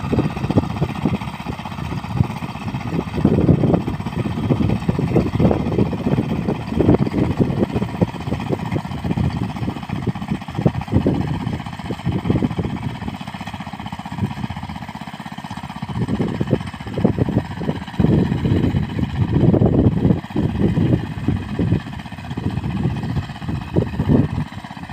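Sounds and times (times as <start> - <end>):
small engine running: 0.0 - 24.9.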